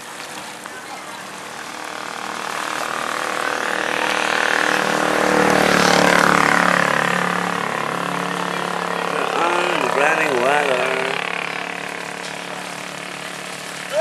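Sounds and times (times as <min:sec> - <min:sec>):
vehicle engine passing by: 0:01.2 - 0:14.0.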